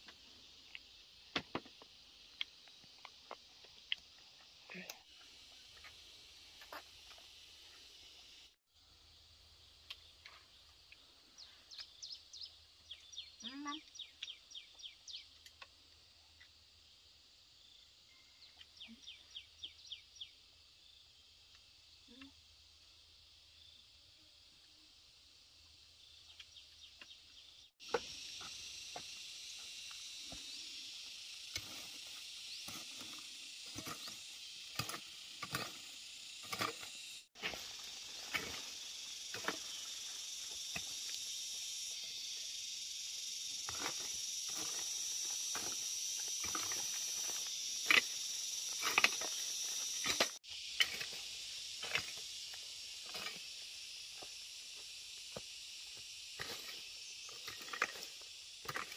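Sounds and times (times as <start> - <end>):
high-pitched insect chorus: 0.0 - 58.9.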